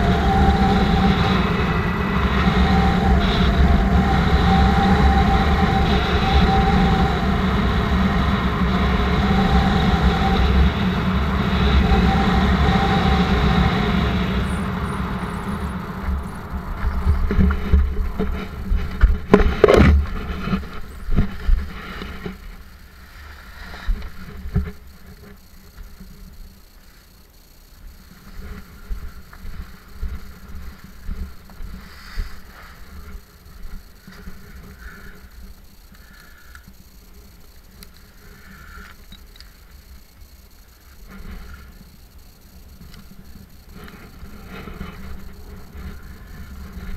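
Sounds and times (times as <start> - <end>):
paramotor engine running: 0.0 - 46.9.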